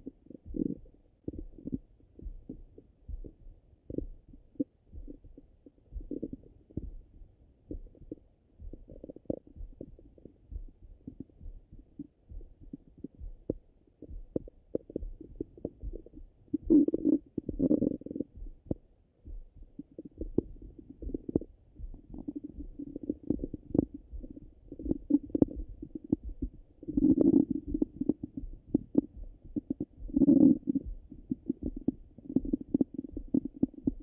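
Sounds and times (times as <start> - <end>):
stomach gurgles and clicks: 0.0 - 34.0.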